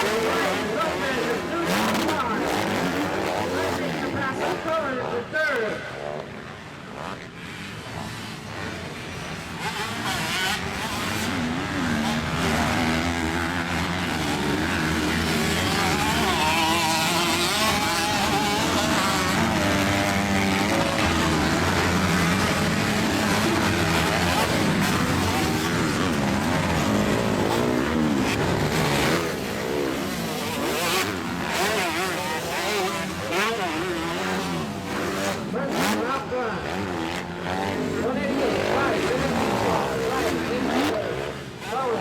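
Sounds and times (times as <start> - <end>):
motorcycles racing and revving: 0.0 - 42.0.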